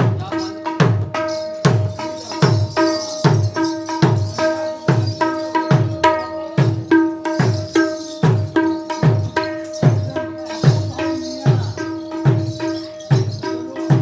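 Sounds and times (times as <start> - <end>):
ringing treble drum strokes: 0.0 - 14.0.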